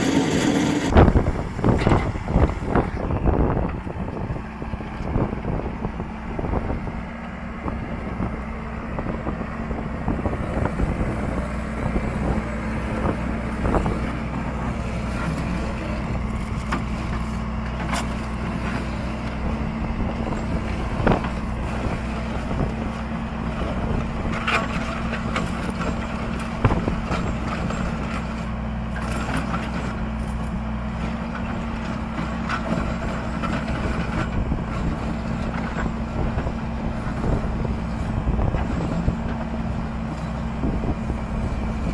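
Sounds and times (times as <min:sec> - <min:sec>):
construction machine engine running: 0:00.0 - 0:41.9.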